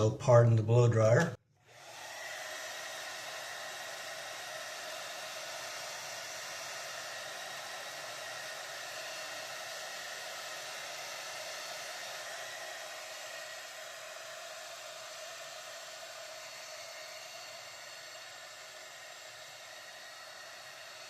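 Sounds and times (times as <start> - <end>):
hair dryer running: 1.6 - 21.0.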